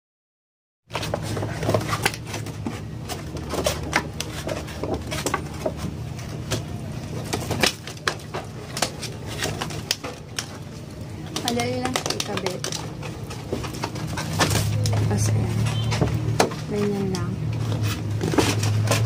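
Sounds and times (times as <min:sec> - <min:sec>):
plastic packaging crinkling: 0:00.9 - 0:19.0.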